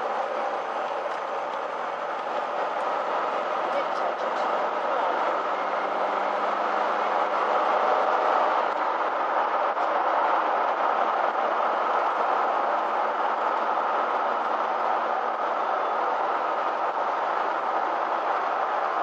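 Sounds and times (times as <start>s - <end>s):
tyre and engine noise: 0.0s - 19.0s.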